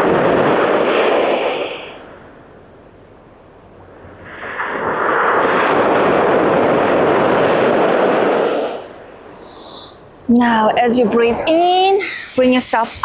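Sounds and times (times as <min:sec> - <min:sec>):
ocean wave breaking: 0:00.0 - 0:02.4, 0:03.7 - 0:13.0.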